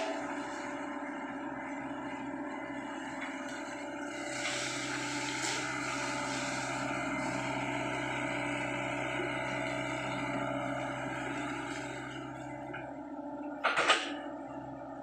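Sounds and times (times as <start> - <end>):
excavator diesel engine and hydraulics: 0.0 - 15.0.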